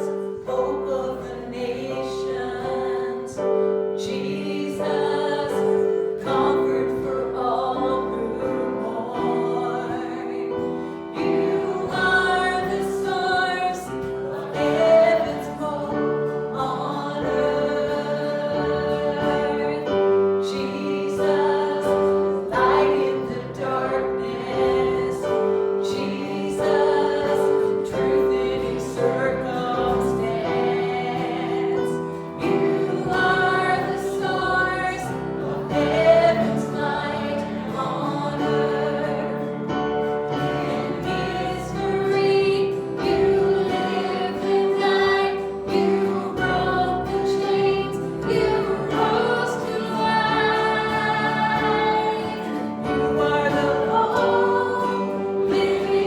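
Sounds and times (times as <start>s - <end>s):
congregation singing: 0.0s - 56.0s.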